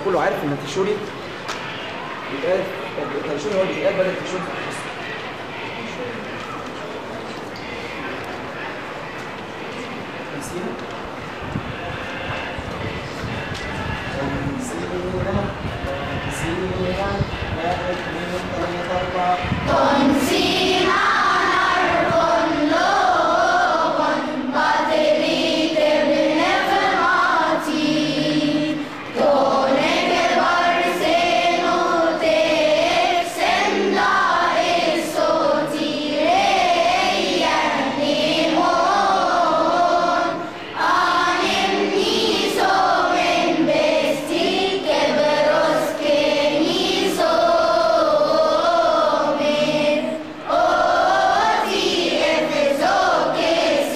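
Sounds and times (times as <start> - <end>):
children's choir singing a hymn: 1.2 - 53.9.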